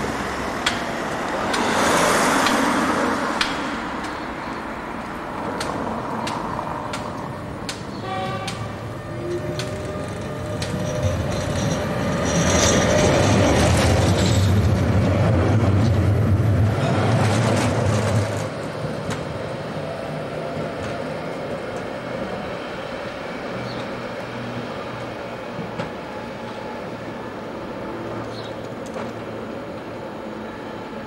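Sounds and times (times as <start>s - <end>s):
distant tram approaching: 0.0s - 31.0s
street noise: 0.0s - 31.0s
tram passing with low hum: 0.0s - 31.0s.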